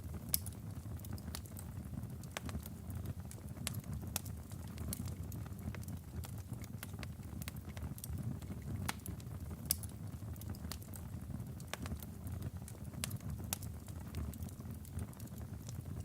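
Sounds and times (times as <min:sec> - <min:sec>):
log fire crackling and snapping: 0:00.0 - 0:16.0.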